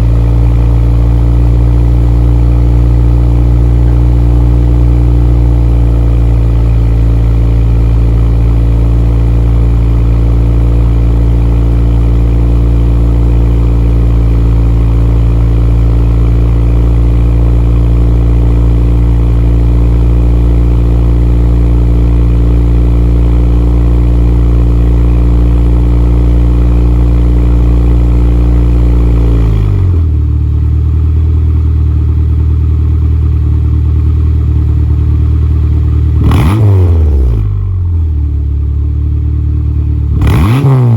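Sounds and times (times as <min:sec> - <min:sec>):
car engine revving and idling: 0:00.0 - 0:40.9.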